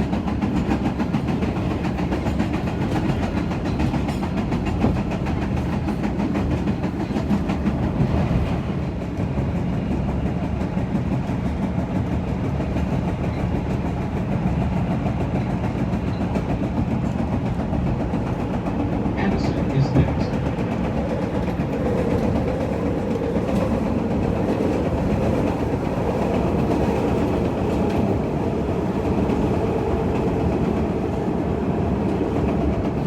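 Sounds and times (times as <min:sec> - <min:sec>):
train wheels on rail: 0:00.0 - 0:33.0.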